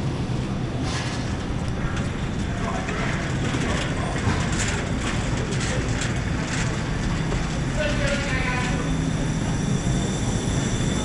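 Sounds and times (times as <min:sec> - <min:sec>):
shopping cart wheels rumbling: 0:01.3 - 0:11.0.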